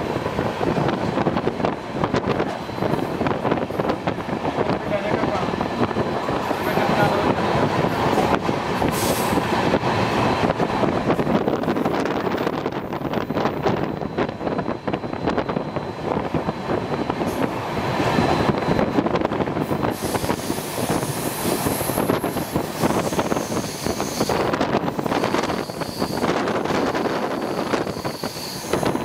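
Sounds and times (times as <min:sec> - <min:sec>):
train wheels rumbling on rails: 0:00.0 - 0:29.0
wind on microphone: 0:00.0 - 0:29.0.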